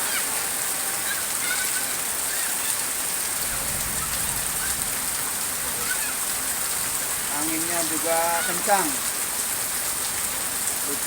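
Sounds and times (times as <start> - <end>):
heavy rain pouring down: 0.0 - 11.0.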